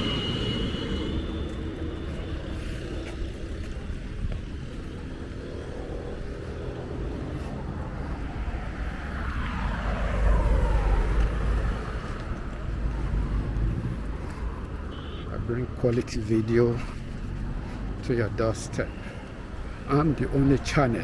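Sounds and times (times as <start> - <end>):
road traffic: 0.0 - 21.0
vehicle passing close by: 0.0 - 21.0.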